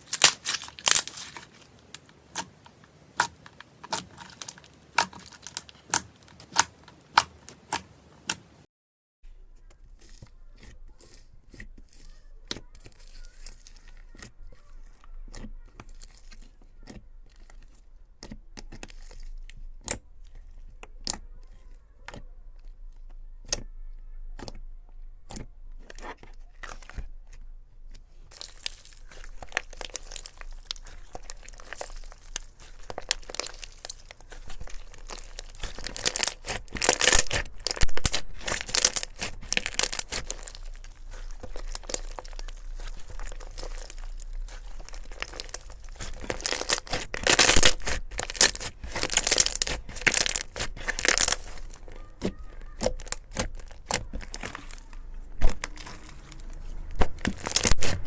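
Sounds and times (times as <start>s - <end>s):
slime crackling and popping: 0.0s - 8.5s, 9.8s - 22.8s, 25.2s - 58.0s.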